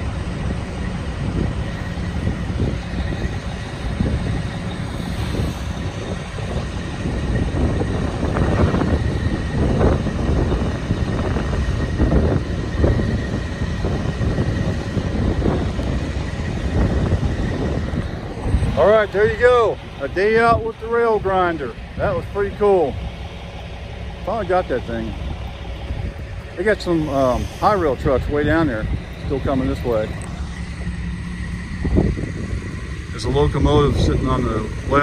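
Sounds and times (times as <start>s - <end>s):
wind on microphone: 0.0s - 22.4s, 25.4s - 35.0s
rail grinder train running: 0.0s - 35.0s.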